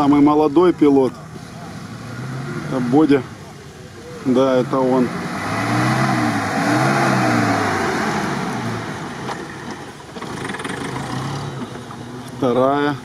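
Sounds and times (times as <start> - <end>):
broad rushing noise: 0.0 - 13.0
suv engine revving: 0.0 - 13.0.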